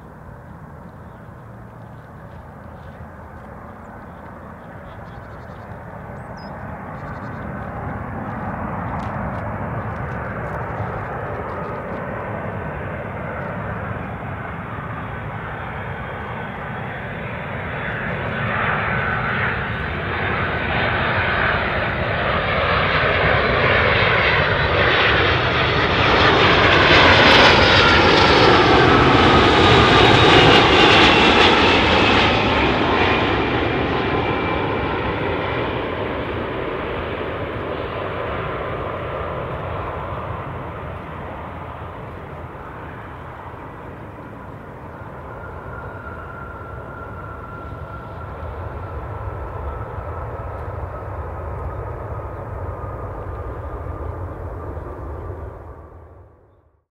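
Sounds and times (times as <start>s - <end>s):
jet rumble and whine: 0.0s - 56.9s.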